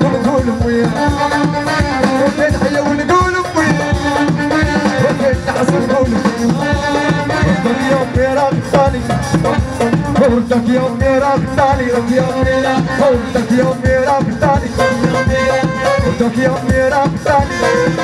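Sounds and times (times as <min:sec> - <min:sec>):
band with driving percussion: 0:00.0 - 0:18.0
man singing: 0:00.0 - 0:18.0.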